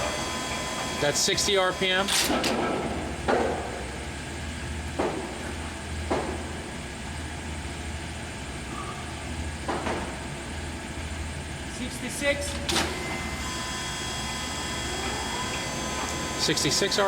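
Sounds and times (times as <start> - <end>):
lathe running with low hum: 0.0 - 17.0.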